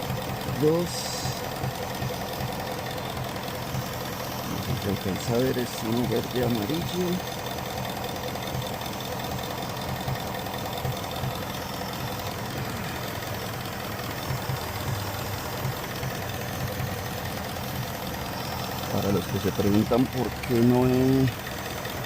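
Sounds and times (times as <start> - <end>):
car engine idling with misfire: 0.0 - 22.0.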